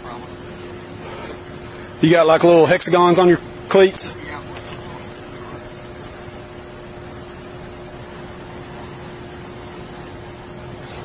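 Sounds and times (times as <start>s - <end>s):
faint even hum: 0.0s - 11.0s
steady hiss: 0.0s - 11.0s.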